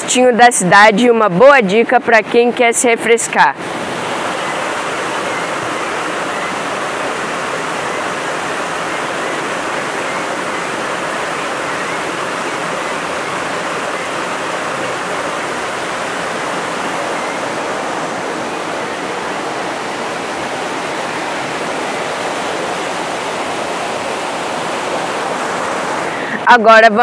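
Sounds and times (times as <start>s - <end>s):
waterfall rushing over rocks: 3.1s - 26.5s.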